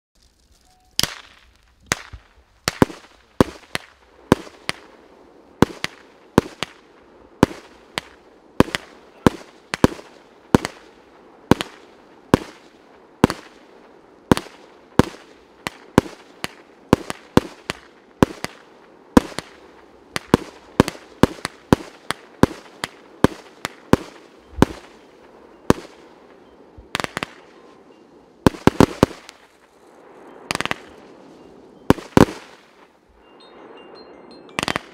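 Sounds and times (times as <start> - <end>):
fireworks bangs: 0.2 - 31.2, 31.9 - 32.9, 34.6 - 34.9.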